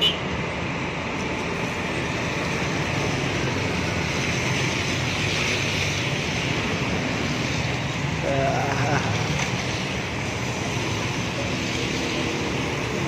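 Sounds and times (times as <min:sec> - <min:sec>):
bus diesel engine running: 0:00.0 - 0:13.0
car tyres hissing on wet road: 0:00.9 - 0:13.0.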